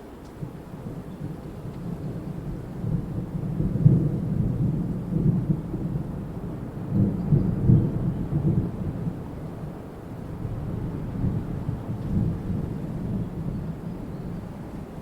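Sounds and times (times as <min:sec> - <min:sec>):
strong wind gusting: 0:00.4 - 0:15.0.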